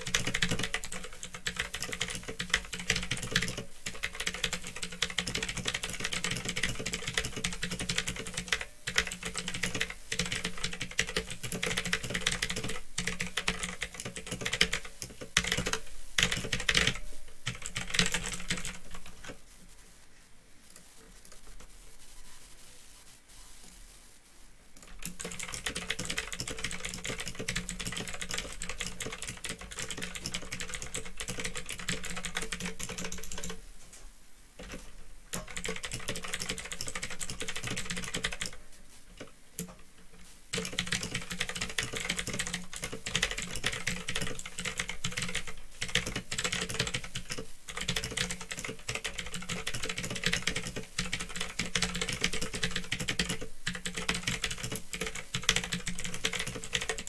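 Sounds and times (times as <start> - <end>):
mechanical keyboard typing: 0.0 - 19.4, 24.8 - 33.6, 34.6 - 38.6, 40.5 - 57.0.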